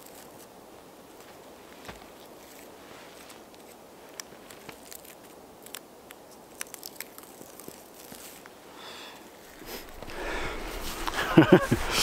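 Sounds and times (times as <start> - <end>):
crunches of snow and twigs: 0.0 - 12.0.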